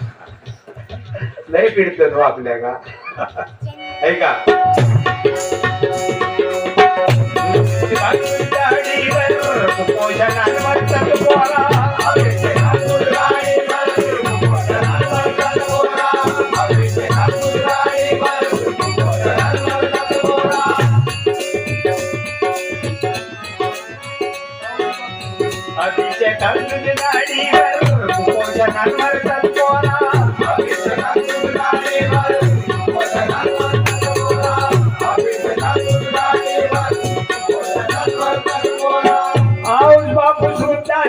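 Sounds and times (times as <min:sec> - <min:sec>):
harmonium drone and melody: 0:00.0 - 0:41.0
hand drum beating: 0:03.2 - 0:40.8.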